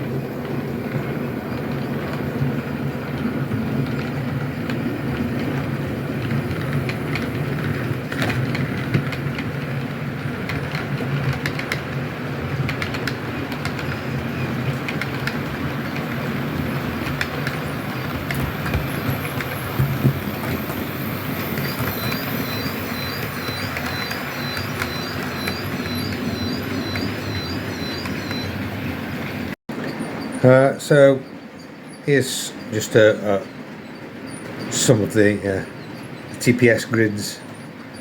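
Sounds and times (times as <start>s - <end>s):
wheels clicking on rails: 0.0s - 38.0s.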